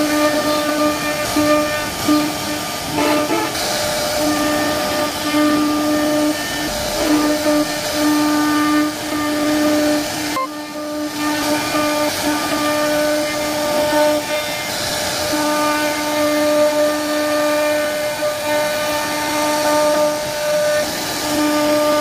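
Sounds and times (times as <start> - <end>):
router bit cutting wood: 0.0 - 22.0
router spindle whine: 0.0 - 22.0.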